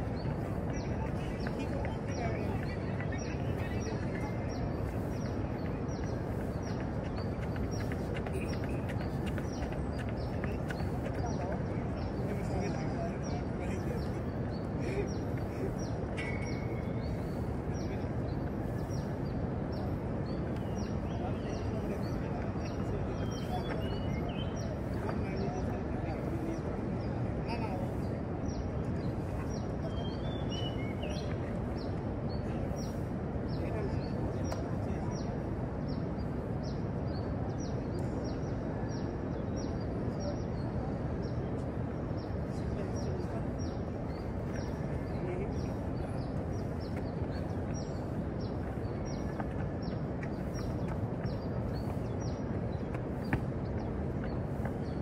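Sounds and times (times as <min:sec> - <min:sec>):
low outdoor background noise: 0:00.0 - 0:55.0
small birds chirping: 0:00.0 - 0:55.0.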